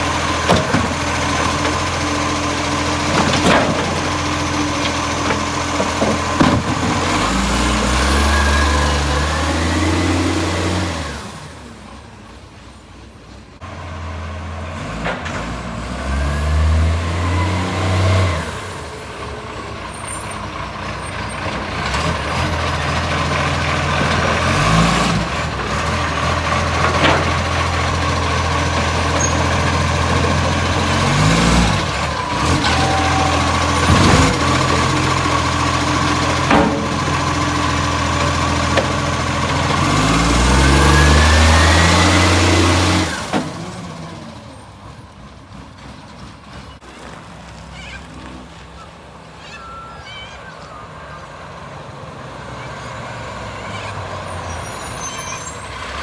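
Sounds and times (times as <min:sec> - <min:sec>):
diesel engine with exhaust leak: 0:00.0 - 0:56.0.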